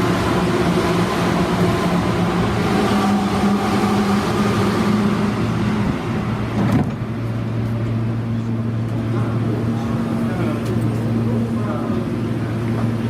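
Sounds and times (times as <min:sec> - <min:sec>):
vehicle running hum: 0:00.0 - 0:13.0.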